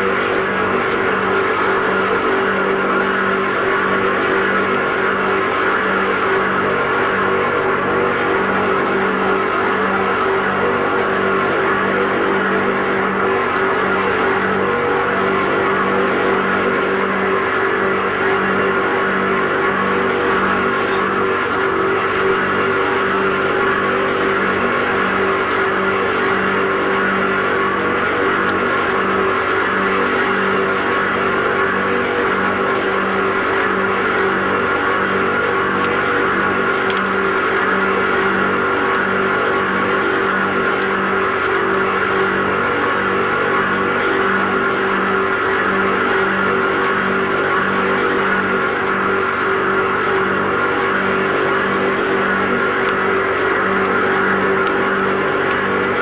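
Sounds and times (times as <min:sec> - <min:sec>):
pulsing mechanical drone: 0:00.0 - 0:56.0.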